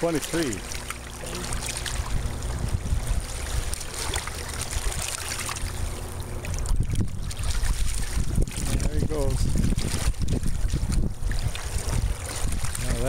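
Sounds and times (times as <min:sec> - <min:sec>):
low steady rumble: 0:00.0 - 0:13.0
shallow water splashing: 0:00.0 - 0:13.0.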